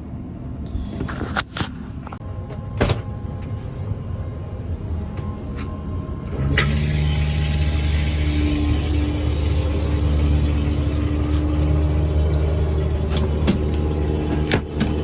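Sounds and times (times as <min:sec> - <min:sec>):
aircraft engine hum: 0:00.0 - 0:15.0
aircraft cabin rumble: 0:00.7 - 0:15.0.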